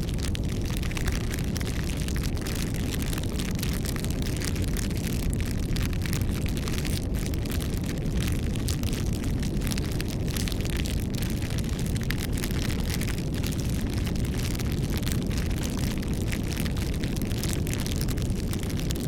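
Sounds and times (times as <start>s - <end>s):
burning wood crackling and popping: 0.0s - 19.0s
low rumble of flame: 0.0s - 19.0s.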